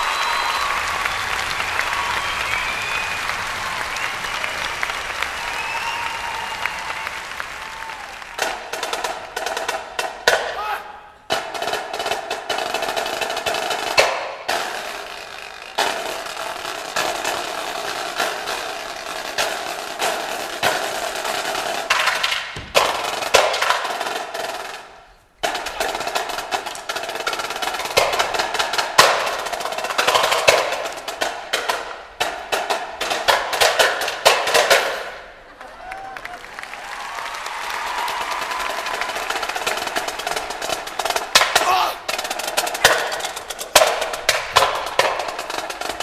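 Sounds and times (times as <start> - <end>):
marching snare drum rolls: 0.0 - 35.4, 36.4 - 46.0.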